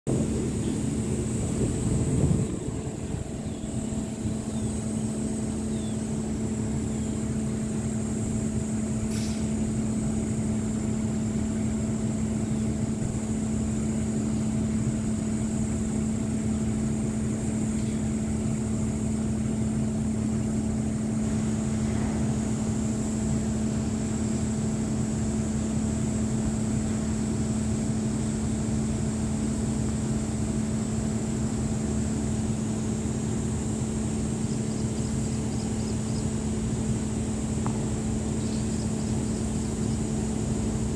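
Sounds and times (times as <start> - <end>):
engine running steadily: 0.0 - 40.9
faint high whine: 0.1 - 40.9.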